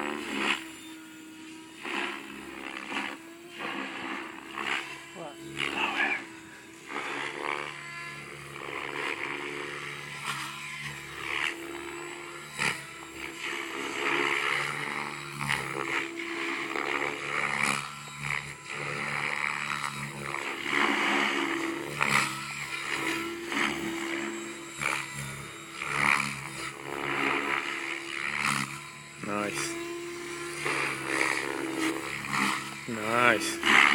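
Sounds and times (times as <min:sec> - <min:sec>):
rc helicopter motor and rotor hum: 0:00.0 - 0:33.9.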